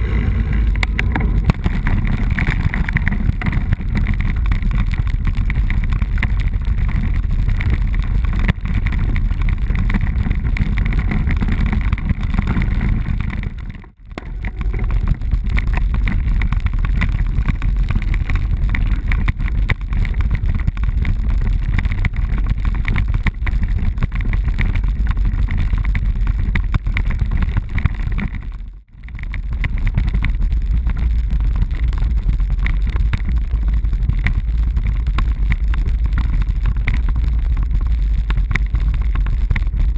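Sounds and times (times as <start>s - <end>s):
bike rattling over cobblestones: 0.0s - 39.9s
wind on microphone: 0.0s - 39.9s.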